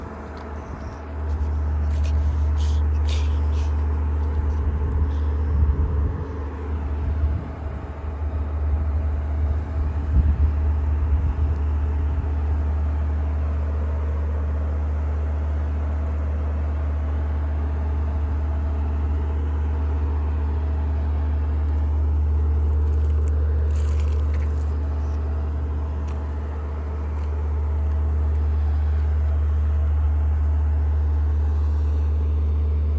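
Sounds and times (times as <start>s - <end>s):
deep droning hum: 0.0s - 32.9s.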